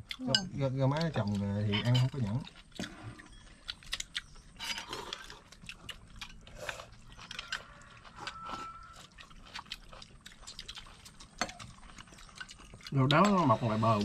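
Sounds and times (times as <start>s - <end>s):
chewing: 0.0s - 14.0s.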